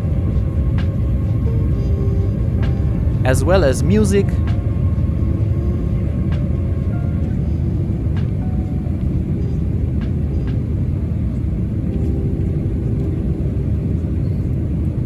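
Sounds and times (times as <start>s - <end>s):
airplane cabin engine roar: 0.0s - 15.0s.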